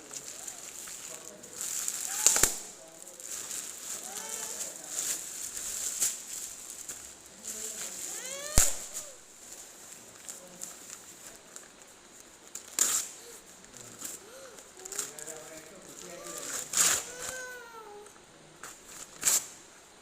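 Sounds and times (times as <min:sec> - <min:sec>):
packaging being handled: 0:00.0 - 0:19.5.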